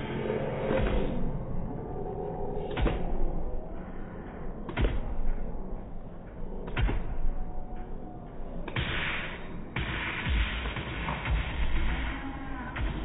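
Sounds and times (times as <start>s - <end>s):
low sustained notes: 0.0s - 13.0s.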